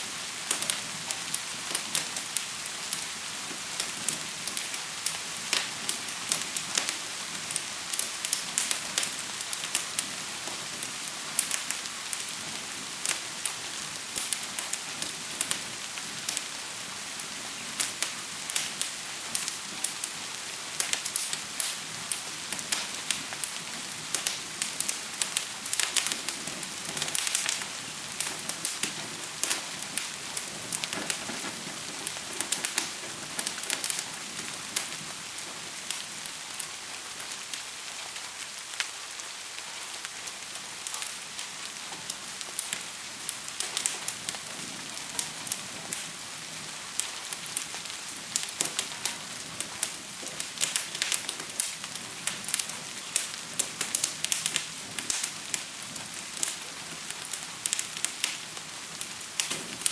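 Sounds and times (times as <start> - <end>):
fire crackling and popping: 0.0 - 59.9
steady rain hiss: 0.0 - 59.9.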